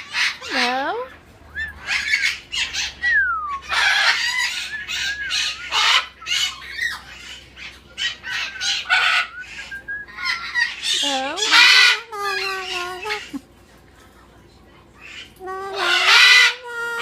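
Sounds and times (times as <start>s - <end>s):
parrots squawking: 0.0s - 13.5s, 15.0s - 17.0s.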